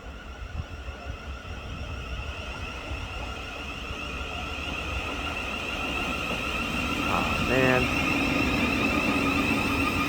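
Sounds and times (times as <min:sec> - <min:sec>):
low train rumble: 0:00.0 - 0:10.0
train electrical whine: 0:00.0 - 0:10.0.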